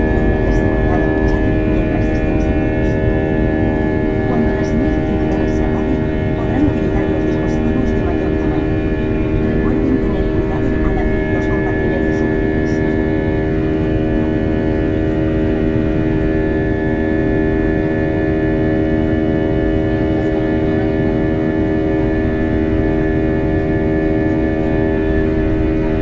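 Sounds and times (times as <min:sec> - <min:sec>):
hum of held tones: 0:00.0 - 0:26.0
jet engine drone: 0:00.0 - 0:26.0.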